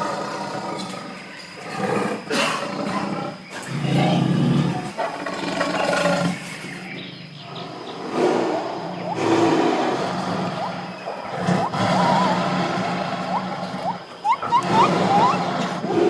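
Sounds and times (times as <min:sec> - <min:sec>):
tiger roaring: 0:00.0 - 0:06.5, 0:07.3 - 0:16.0.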